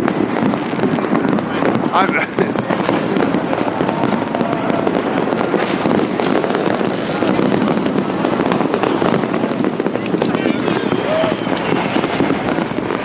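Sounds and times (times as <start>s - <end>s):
fireworks and firecrackers crackling: 0.0s - 13.0s.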